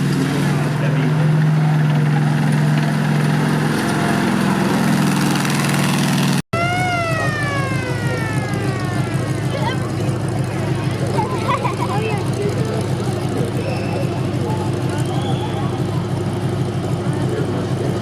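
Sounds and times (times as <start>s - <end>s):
tank engine running: 0.0s - 18.0s.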